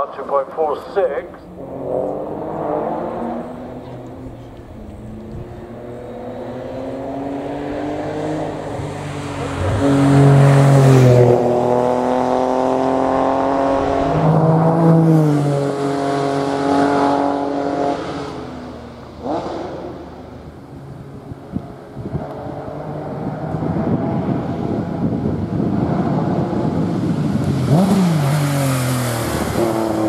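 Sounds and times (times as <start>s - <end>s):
racing car accelerating past: 1.4s - 20.8s, 21.5s - 30.0s.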